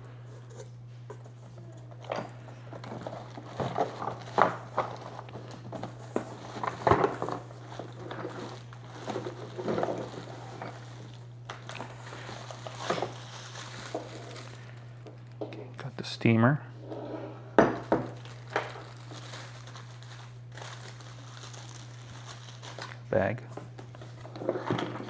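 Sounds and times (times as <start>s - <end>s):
steady low hum: 0.0s - 25.0s
cardboard packaging rustling: 1.2s - 15.4s, 17.7s - 25.0s.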